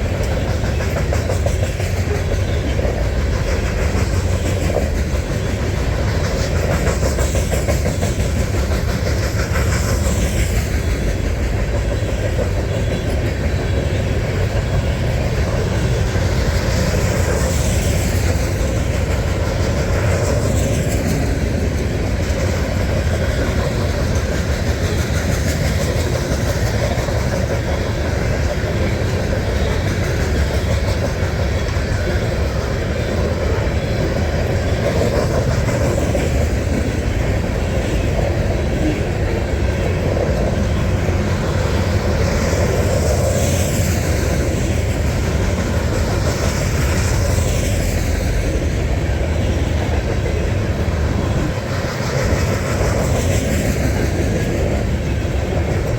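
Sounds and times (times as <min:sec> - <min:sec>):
clickety-clack over rail joints: 0:00.0 - 0:55.9
train wheels rumbling on rails: 0:00.0 - 0:55.9.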